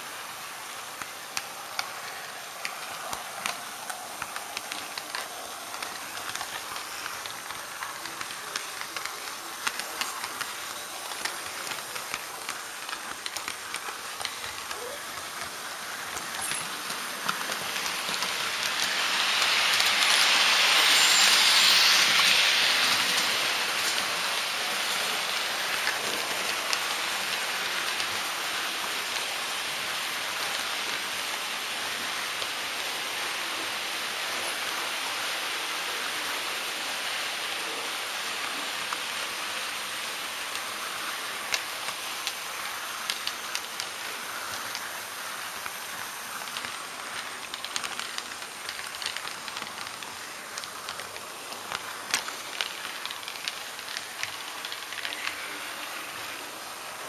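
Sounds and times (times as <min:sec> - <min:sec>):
model train wheels and motors hissing: 0:00.0 - 0:57.0.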